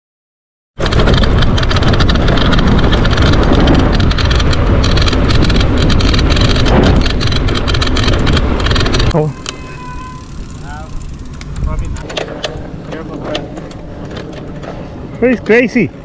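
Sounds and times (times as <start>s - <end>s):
wind buffeting microphone: 0.8s - 9.4s, 10.2s - 15.2s
mountain bike rattling on rough ground: 0.8s - 15.9s.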